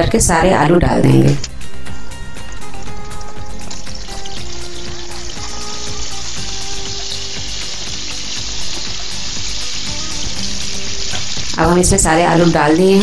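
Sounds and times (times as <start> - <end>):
potatoes sizzling in hot oil: 1.5 - 13.0.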